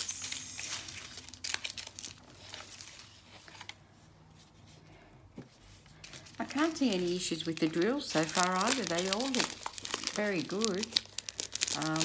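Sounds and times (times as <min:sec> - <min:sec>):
paper rustling: 0:00.0 - 0:03.8, 0:05.5 - 0:12.0
plastic bags crinkling: 0:00.0 - 0:03.8, 0:05.9 - 0:12.0.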